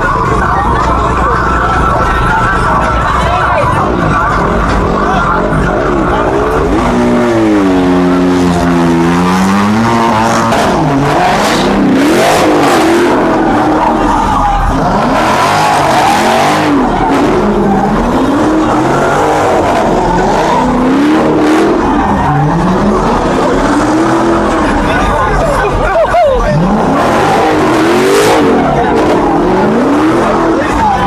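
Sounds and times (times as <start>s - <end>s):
car engine revving: 0.0s - 31.0s
tyres screeching: 0.0s - 31.0s.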